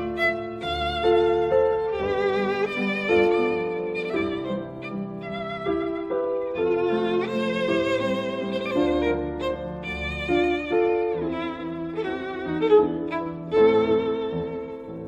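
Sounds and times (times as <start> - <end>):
low string or piano accompaniment: 0.0 - 15.0
slow violin melody with vibrato: 0.0 - 15.0.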